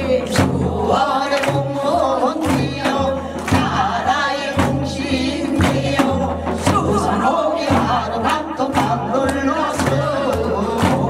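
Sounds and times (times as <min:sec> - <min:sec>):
drum beats: 0:00.0 - 0:11.0
women singing in unison: 0:00.0 - 0:11.0.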